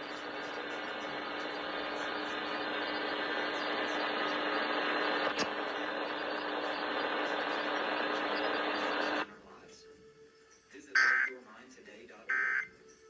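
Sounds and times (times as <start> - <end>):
radio static hiss: 0.0 - 9.7, 10.8 - 12.7.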